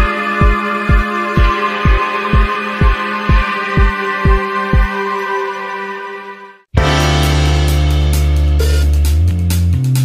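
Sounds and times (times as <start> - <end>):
layered synth pad music: 0.0 - 8.8.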